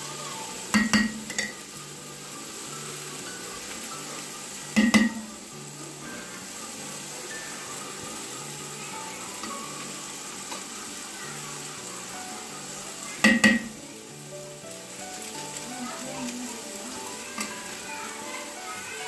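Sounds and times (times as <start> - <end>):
food bubbling and sizzling in pot: 0.0 - 19.0.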